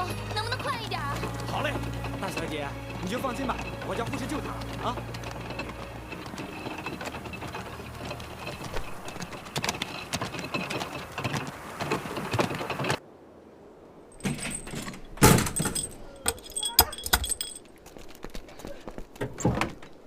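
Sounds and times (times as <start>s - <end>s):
street vehicle clattering: 0.0s - 13.0s, 14.2s - 17.6s.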